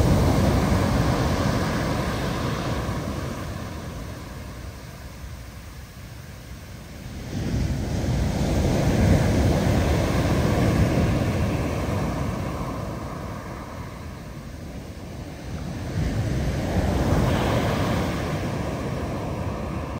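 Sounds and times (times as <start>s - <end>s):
ocean waves breaking: 0.0s - 19.9s
wind rumbling on microphone: 0.0s - 19.9s.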